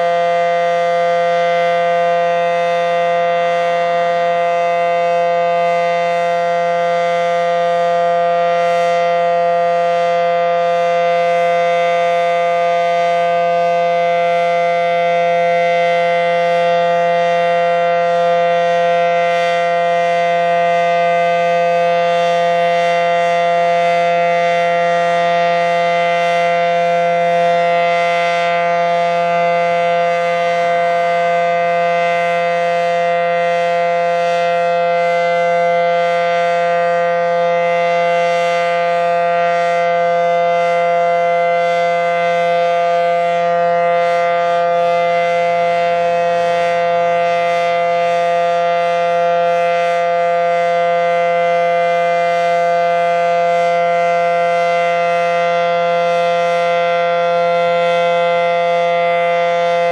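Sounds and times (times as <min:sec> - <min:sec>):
warning siren steady chord: 0:00.0 - 0:59.9.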